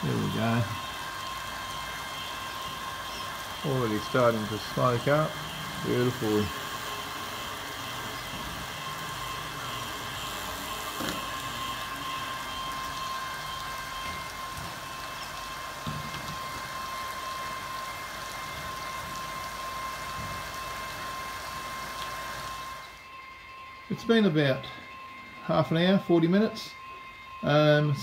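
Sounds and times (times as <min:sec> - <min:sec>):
light rain hiss: 0:00.0 - 0:23.1
electric motor whine: 0:00.0 - 0:28.0.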